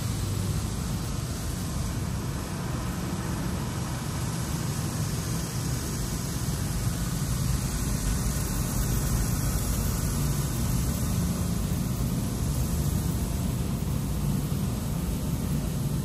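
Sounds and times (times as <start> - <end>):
water spraying over car: 0.0 - 15.8
constant low hum: 0.0 - 16.0.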